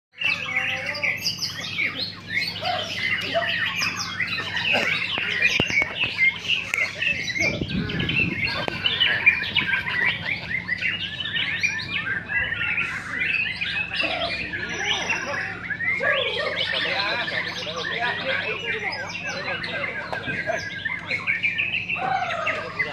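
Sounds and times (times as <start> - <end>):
birds whistling and chirping: 0.2 - 22.9
steady low hum: 0.2 - 22.9.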